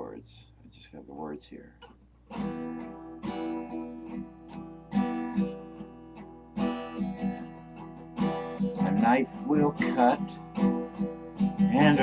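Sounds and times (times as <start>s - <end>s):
acoustic guitar strumming chords: 1.8s - 12.0s.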